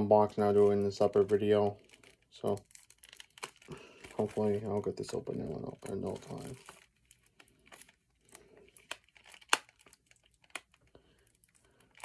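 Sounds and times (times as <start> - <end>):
packaging crinkling and tearing: 0.0 - 12.0
packaging snapping: 0.4 - 4.8, 5.5 - 12.0.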